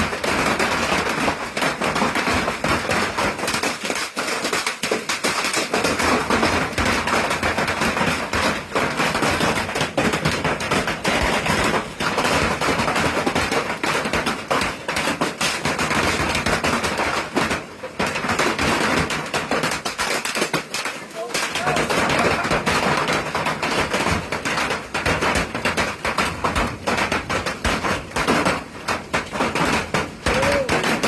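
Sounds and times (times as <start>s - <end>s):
hail clattering on hard surfaces: 0.0s - 31.0s.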